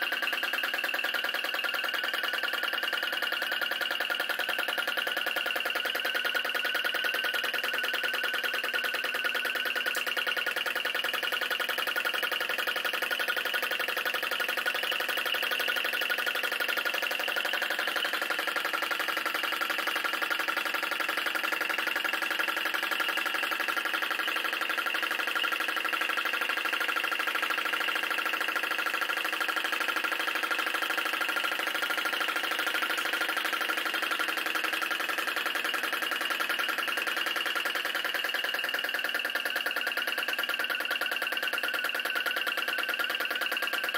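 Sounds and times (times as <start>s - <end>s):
small engine running fast: 0.0s - 43.9s.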